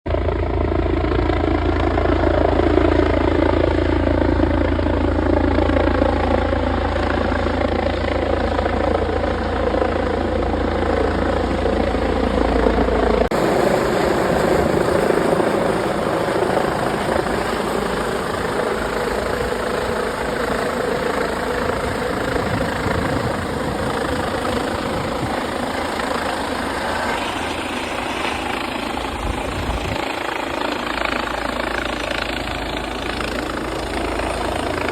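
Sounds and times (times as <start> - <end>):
helicopter engine and rotors: 0.1 - 34.9.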